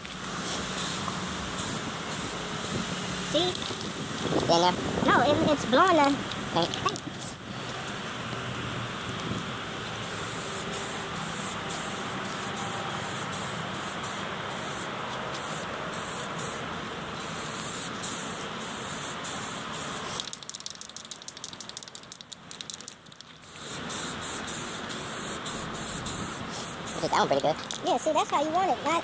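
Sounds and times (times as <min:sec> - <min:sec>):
spray paint hissing: 0:00.0 - 0:04.5, 0:09.1 - 0:27.9.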